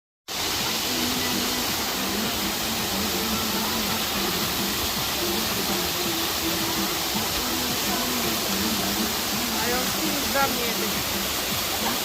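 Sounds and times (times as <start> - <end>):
waterfall rushing: 0.3 - 12.0.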